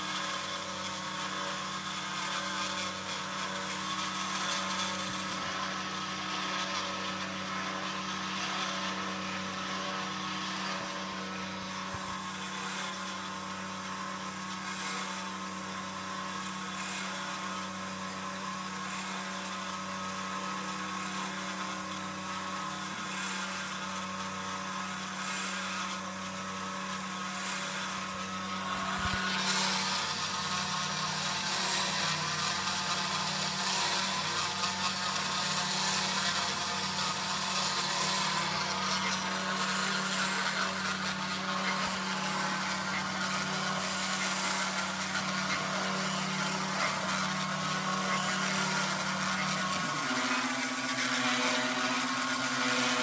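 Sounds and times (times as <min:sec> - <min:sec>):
router motor hum and whine: 0:00.0 - 0:53.0.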